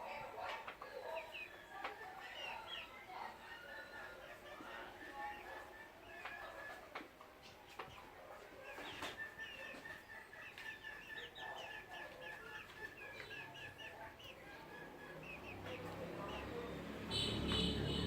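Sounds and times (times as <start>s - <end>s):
chickens calling: 0.0s - 18.0s.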